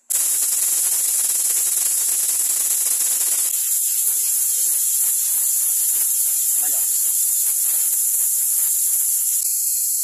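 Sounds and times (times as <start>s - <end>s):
pressure cooker steam hissing: 0.0s - 10.0s.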